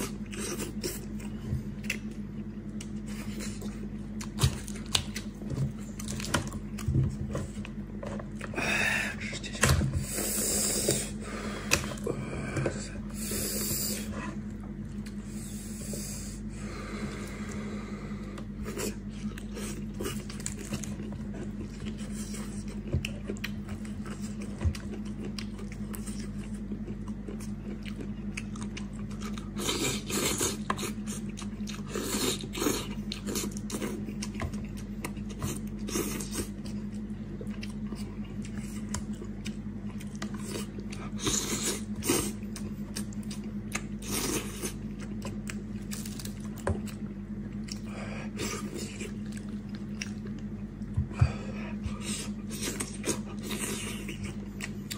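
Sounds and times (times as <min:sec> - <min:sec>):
person chewing: 0:00.0 - 0:54.9
steady low hum: 0:00.0 - 0:54.9.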